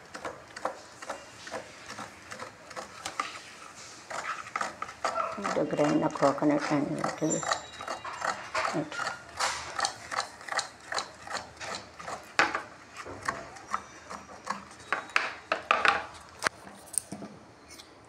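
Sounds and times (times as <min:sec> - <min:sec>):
coconut grater rasping: 0:00.0 - 0:15.6.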